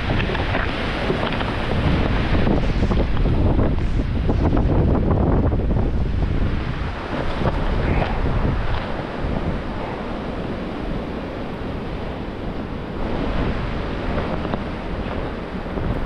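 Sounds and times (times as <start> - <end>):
blizzard wind rushing: 0.0 - 16.0.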